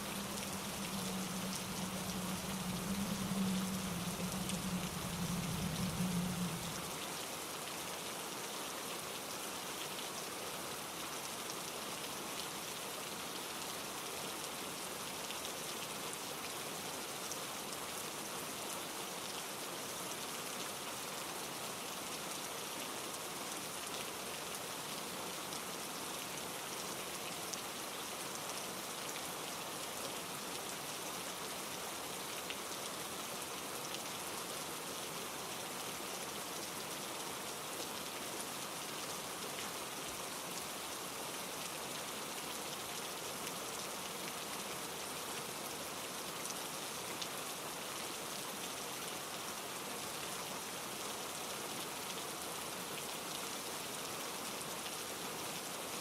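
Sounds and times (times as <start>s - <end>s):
rain on leaves and rocks: 0.0s - 56.0s
stream rushing over rocks: 0.0s - 56.0s.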